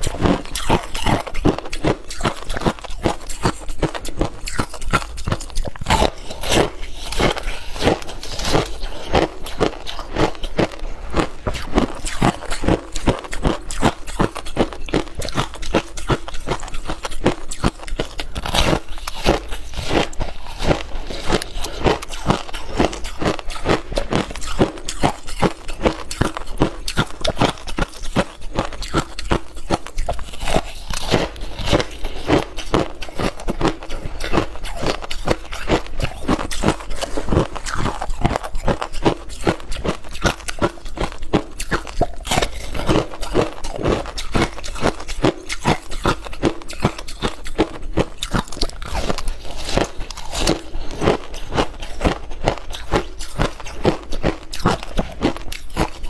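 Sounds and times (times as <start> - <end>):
crunching shaved ice: 0.0 - 56.0.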